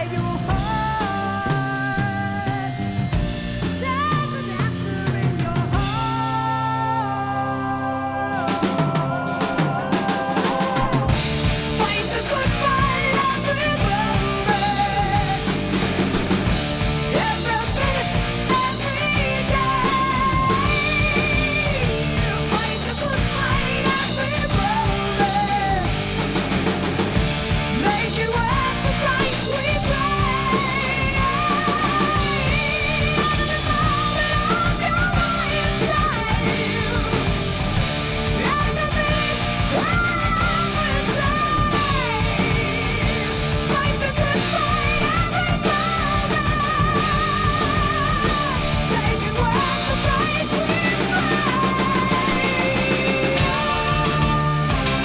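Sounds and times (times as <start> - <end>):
rock song with singing: 0.0 - 55.0.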